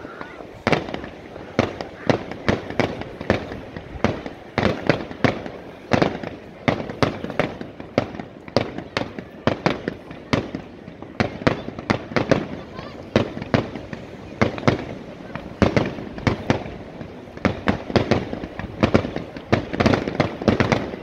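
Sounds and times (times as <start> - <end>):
firework shells bursting: 0.6 - 21.0.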